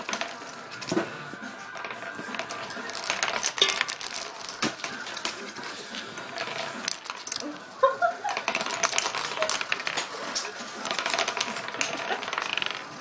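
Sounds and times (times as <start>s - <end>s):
coins spinning on wooden table: 0.0s - 13.0s.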